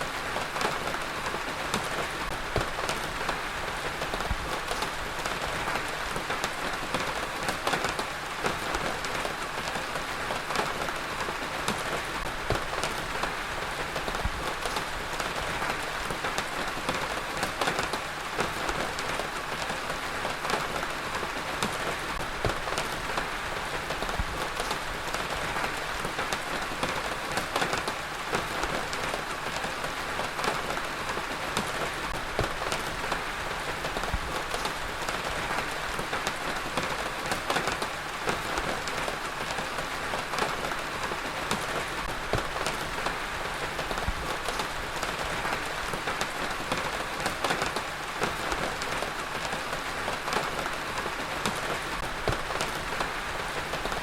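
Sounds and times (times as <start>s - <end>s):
heavy rain on hard surface: 0.0s - 54.0s.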